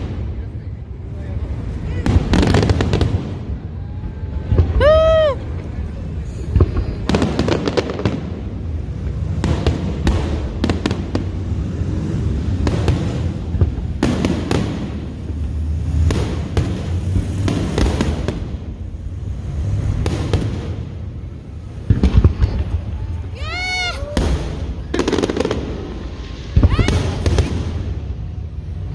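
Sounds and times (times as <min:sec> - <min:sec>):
fireworks bursting with crackling: 0:00.0 - 0:28.9
steady low rumble: 0:00.0 - 0:28.9.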